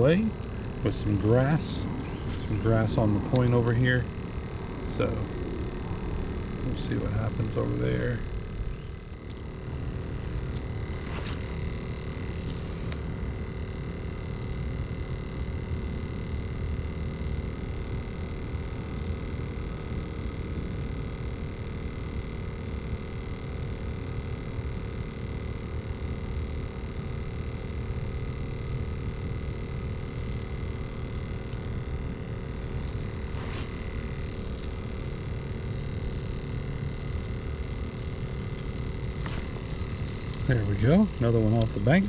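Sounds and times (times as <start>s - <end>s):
electric motor rumble and whine: 0.0s - 42.0s.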